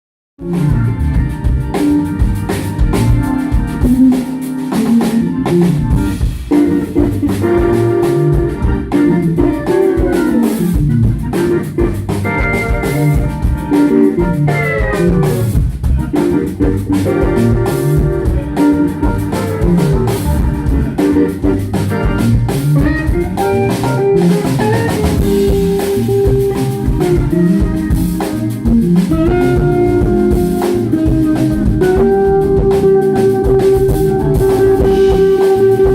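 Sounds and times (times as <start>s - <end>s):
bass guitar: 0.4s - 35.9s
drum kit: 0.4s - 35.9s
sliding steel guitar: 0.4s - 35.9s.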